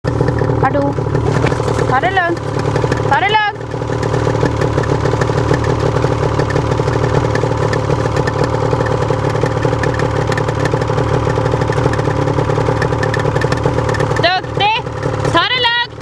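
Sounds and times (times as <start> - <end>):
small engine running steadily: 0.0 - 16.0.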